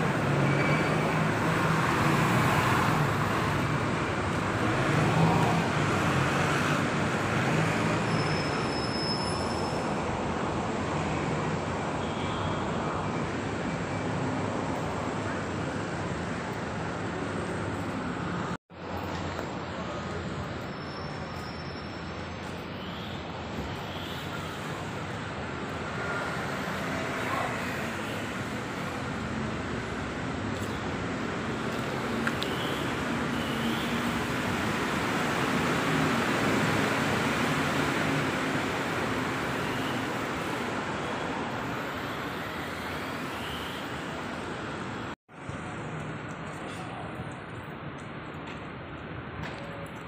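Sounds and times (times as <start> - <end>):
road traffic hum: 0.0 - 50.0.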